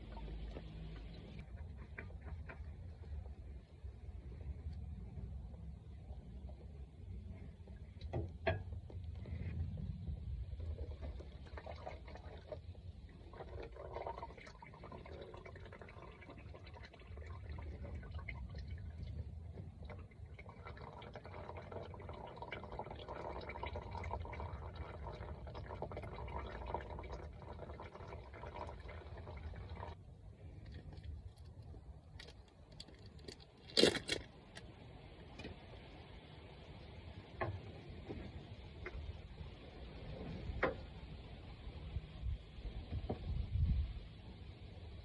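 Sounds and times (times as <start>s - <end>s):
oil pouring in a stream: 0.0s - 4.9s, 10.1s - 44.8s.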